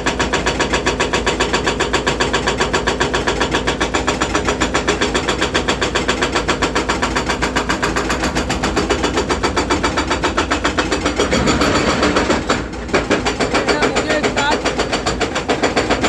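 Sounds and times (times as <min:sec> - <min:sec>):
hydraulic breaker hammer pounding: 0:00.0 - 0:16.0
machine engine running: 0:00.1 - 0:16.0.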